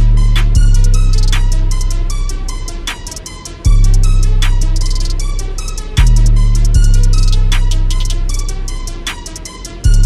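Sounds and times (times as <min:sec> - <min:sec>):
hi-hat ticks: 0:00.0 - 0:10.0
hip hop beat: 0:00.0 - 0:10.0.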